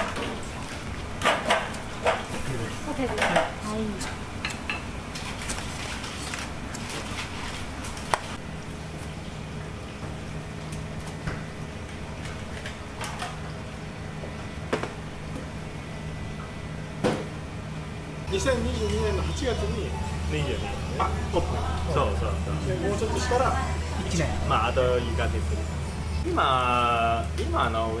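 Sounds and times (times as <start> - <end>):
kitchen equipment hum: 0.0 - 28.0.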